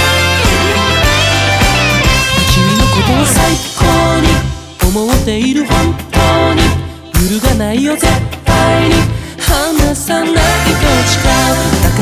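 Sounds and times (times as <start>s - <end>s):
pop song with singer and band: 0.0s - 12.0s.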